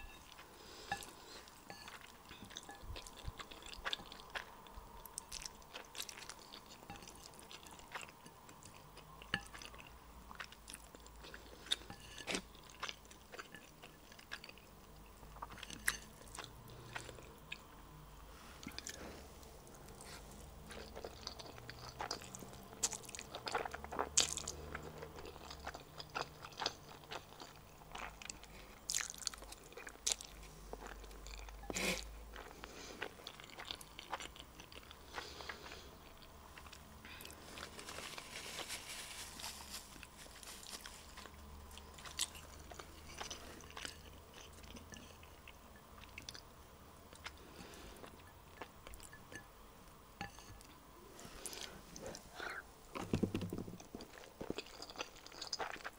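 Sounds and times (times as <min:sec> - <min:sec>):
chewing: 0:00.0 - 0:17.8, 0:18.6 - 0:46.5, 0:50.2 - 0:55.9.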